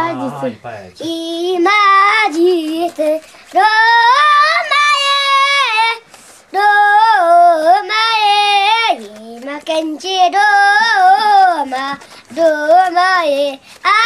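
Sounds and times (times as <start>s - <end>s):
boy singing unaccompanied: 0.0s - 14.0s.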